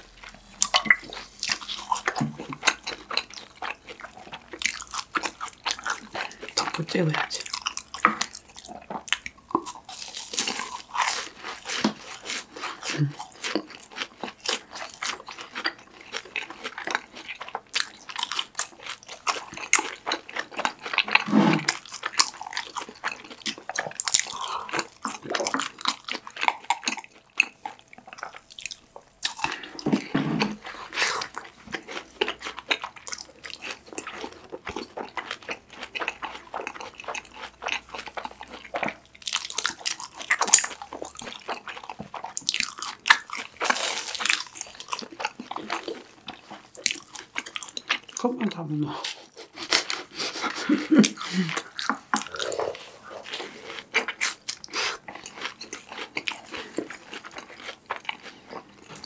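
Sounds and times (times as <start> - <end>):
crunching and chewing fried food: 0.0 - 59.0.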